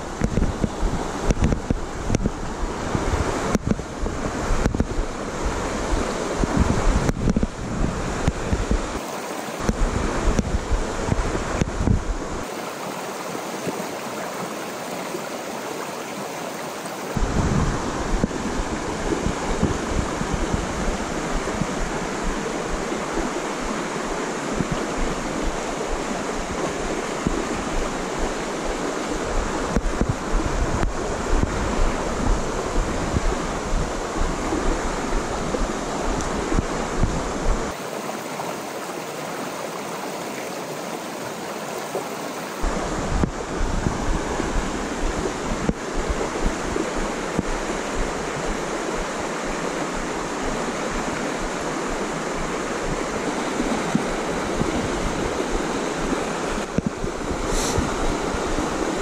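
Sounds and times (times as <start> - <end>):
creek running over stones: 0.0 - 33.3, 37.6 - 59.0.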